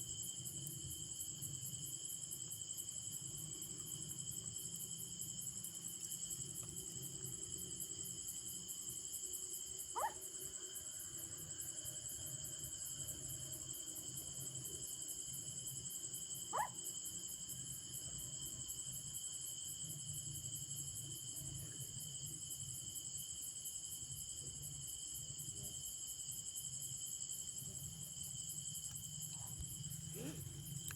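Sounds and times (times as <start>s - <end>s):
crickets trilling: 0.0s - 30.9s.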